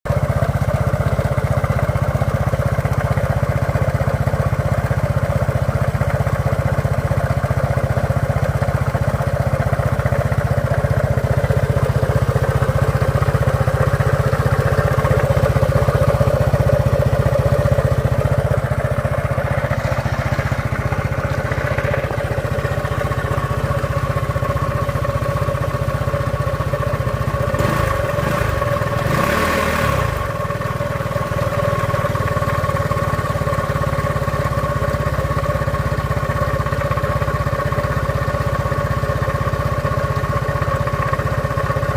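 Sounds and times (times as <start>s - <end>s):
motorcycle engine idling: 0.1s - 41.9s.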